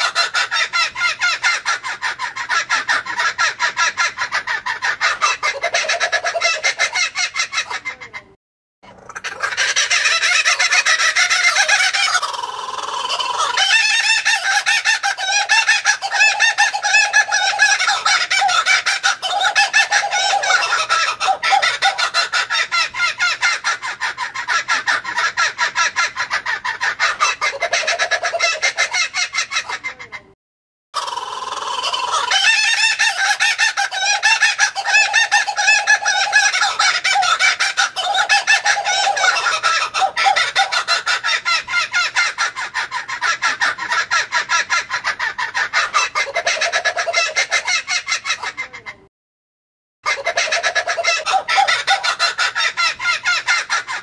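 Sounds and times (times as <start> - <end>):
kookaburra cackling: 0.0 - 30.4, 31.0 - 49.1, 50.1 - 54.0.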